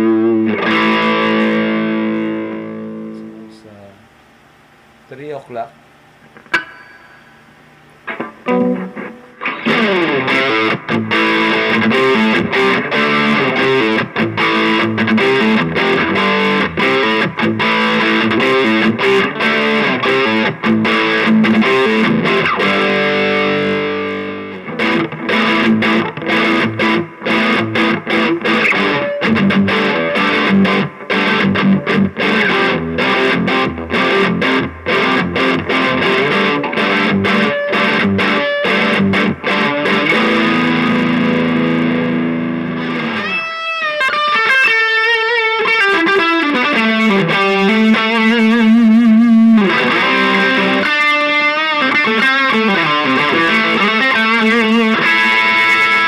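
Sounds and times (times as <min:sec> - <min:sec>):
distorted electric guitar riffs: 0:00.0 - 0:04.2, 0:05.1 - 0:56.0.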